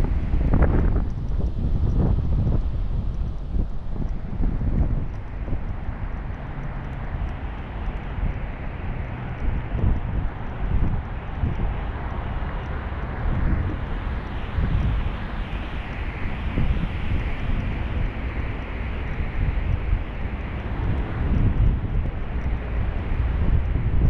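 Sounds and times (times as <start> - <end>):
wind buffeting microphone: 0.0 - 24.0
distant engine roar: 4.1 - 24.0.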